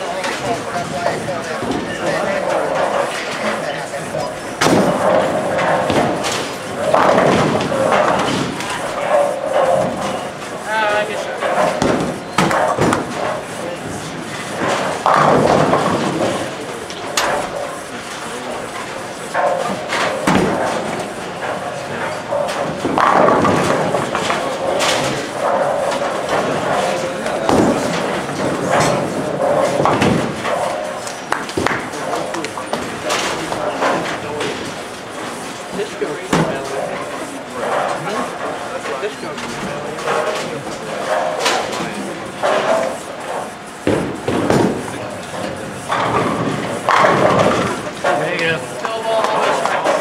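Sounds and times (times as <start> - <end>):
bowling balls rolling: 0.0 - 50.0
bowling pins clattering: 0.0 - 50.0.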